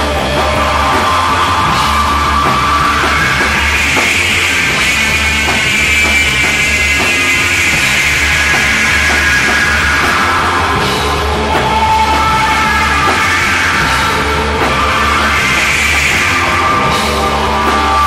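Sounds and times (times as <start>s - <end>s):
guitar wash: 0.0s - 18.0s
heavy psychedelic rock: 0.0s - 18.0s
low bass drone: 0.0s - 18.0s.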